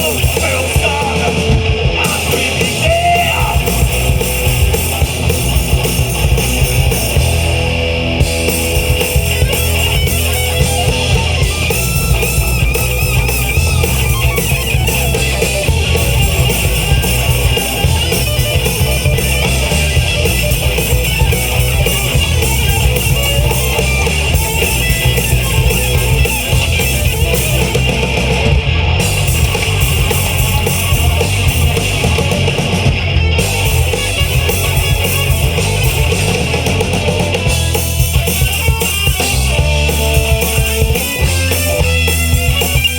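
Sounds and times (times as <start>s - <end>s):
heavy rock band playing: 0.0s - 42.9s.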